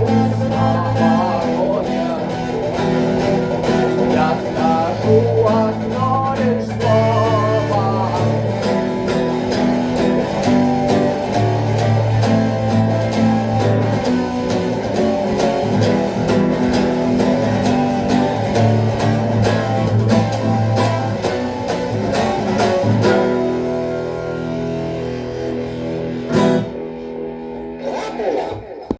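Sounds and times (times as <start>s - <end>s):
instrumental guitar music: 0.0s - 28.9s.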